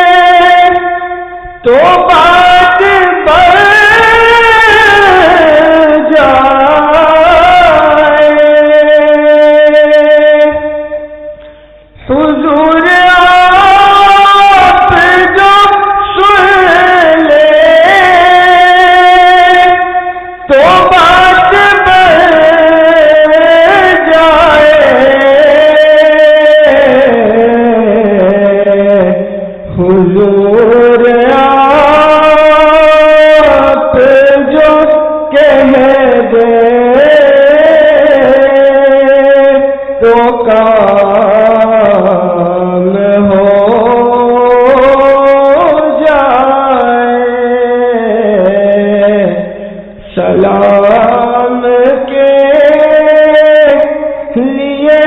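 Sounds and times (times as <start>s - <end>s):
person singing devotional song: 0.0s - 55.0s.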